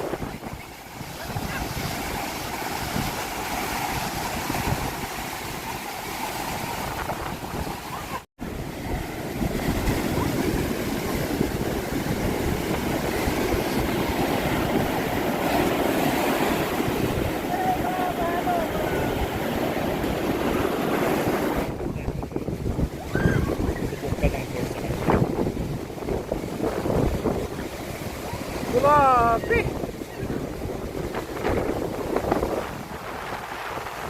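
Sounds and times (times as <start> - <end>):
surf washing onto beach: 0.0 - 34.0
wind buffeting microphone: 0.0 - 34.0.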